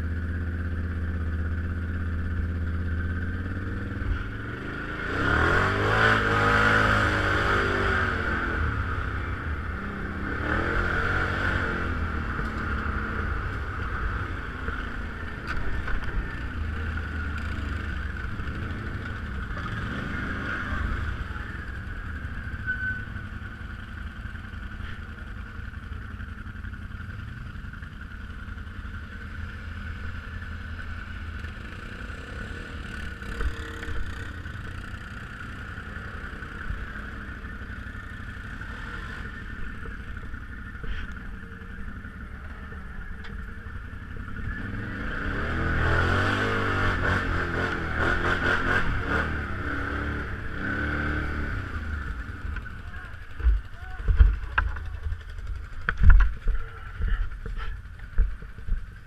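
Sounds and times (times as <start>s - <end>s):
off-road vehicle engine revving: 2.4s - 23.1s, 31.4s - 58.8s.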